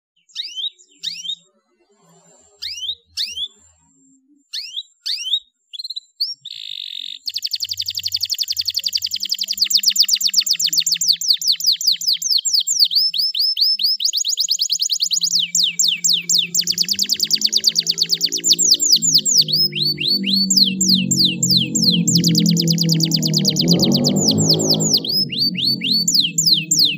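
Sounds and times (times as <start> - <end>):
canary chirping and trilling: 0.2 - 26.9.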